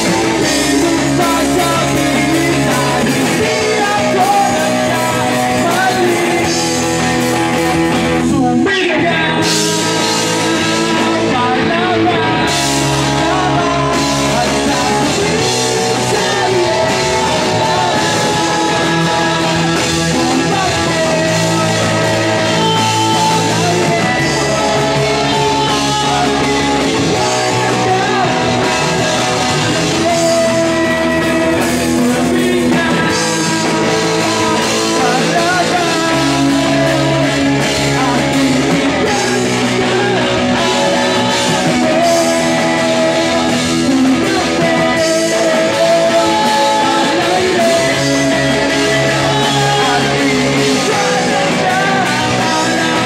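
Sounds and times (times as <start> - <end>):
bass guitar: 0.0 - 53.0
drum kit: 0.0 - 53.0
electric guitar: 0.0 - 53.0
two people singing: 0.0 - 53.0.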